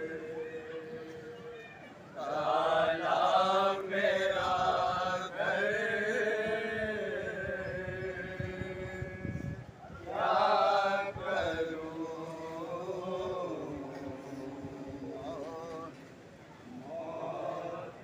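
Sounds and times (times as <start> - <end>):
men chanting a lament: 0.0 - 9.2, 10.0 - 16.0, 16.7 - 18.0.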